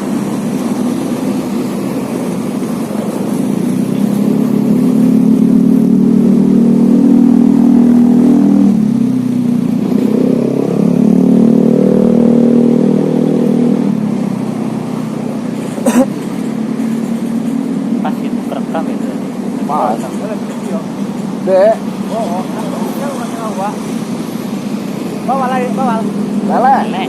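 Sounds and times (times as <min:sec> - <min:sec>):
vehicle engine changing speed: 0:00.0 - 0:27.0.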